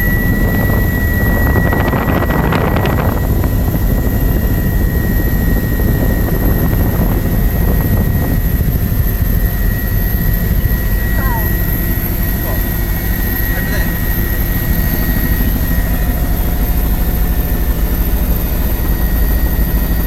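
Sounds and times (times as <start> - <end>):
helicopter rotor and engine rumble: 0.0 - 20.0
thin whine: 0.0 - 20.0.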